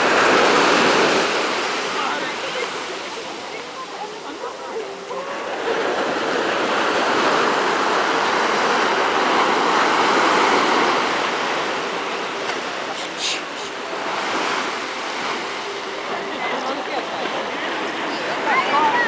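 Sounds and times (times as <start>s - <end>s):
wave breaking on shore: 0.0s - 19.0s.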